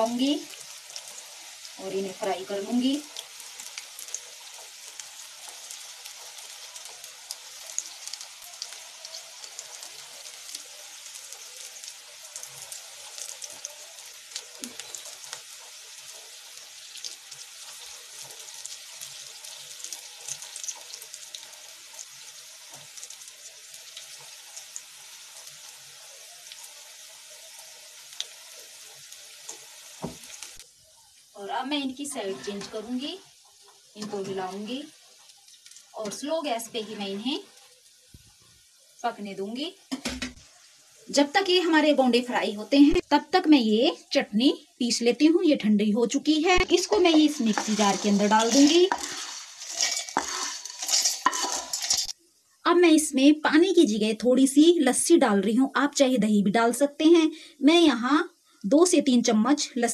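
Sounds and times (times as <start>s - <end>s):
hot oil sizzling and crackling: 0.0s - 59.9s.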